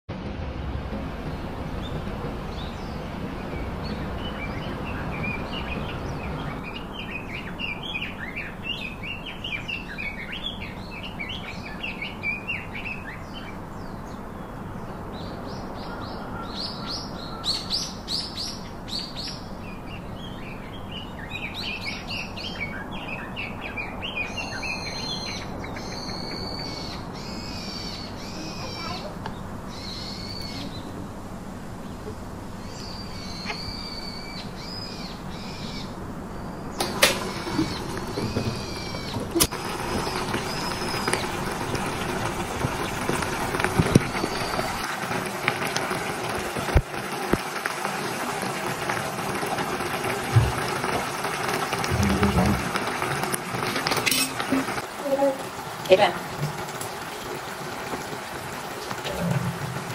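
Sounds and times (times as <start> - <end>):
steady background hiss: 0.1 - 48.6
birds chirping: 1.2 - 56.3.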